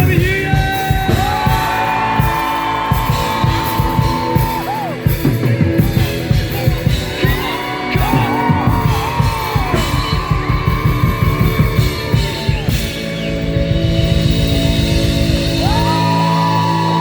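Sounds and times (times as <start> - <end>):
drum beat: 0.0 - 17.0
electric guitar: 0.0 - 17.0.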